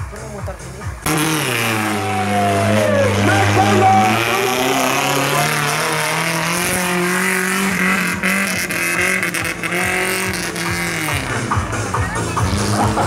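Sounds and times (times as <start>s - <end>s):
off-road buggy engine revving: 0.0s - 13.0s.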